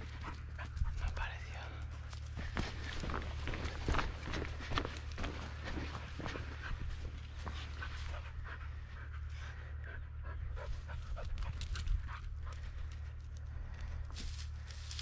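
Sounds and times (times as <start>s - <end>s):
footsteps on stony ground: 0.0s - 9.0s, 10.7s - 15.0s
dog panting: 0.0s - 13.8s
low rumble: 0.0s - 15.0s.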